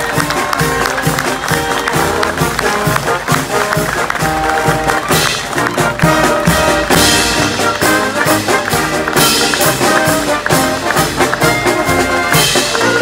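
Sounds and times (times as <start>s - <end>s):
brass band playing upbeat tune: 0.0s - 13.0s.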